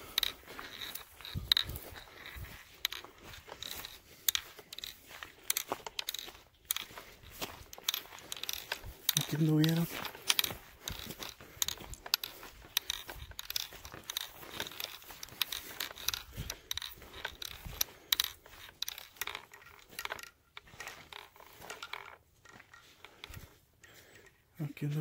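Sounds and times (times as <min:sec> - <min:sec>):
footsteps crunching on gravel: 0:00.0 - 0:25.0.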